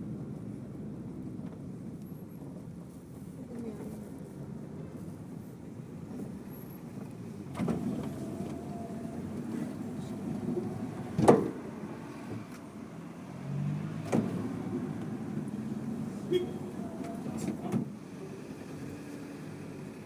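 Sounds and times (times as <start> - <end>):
vehicle ride rumble: 0.0 - 20.0.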